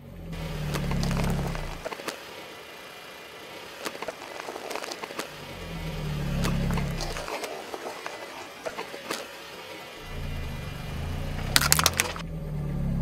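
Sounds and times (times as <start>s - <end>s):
car engine revving: 0.0s - 13.0s
tyre crackling on gritty asphalt: 0.4s - 12.2s.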